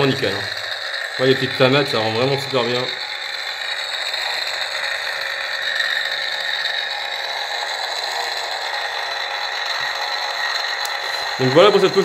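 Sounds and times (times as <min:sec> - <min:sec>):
lightsaber crackling hum: 0:00.0 - 0:12.0.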